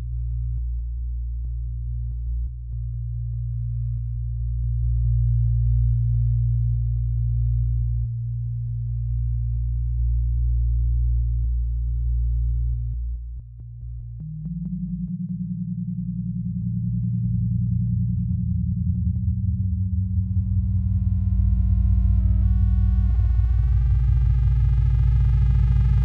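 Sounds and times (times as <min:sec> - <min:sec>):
low synthesizer drone: 0:00.0 - 0:26.0.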